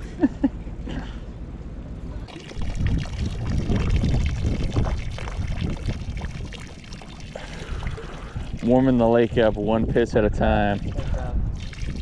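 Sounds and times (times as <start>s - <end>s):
urine stream onto water: 2.3s - 12.0s.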